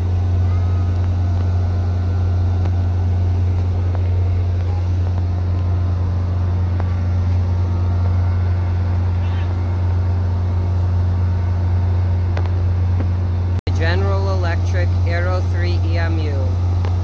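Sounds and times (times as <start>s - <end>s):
diesel locomotive engine idling: 0.0s - 17.0s.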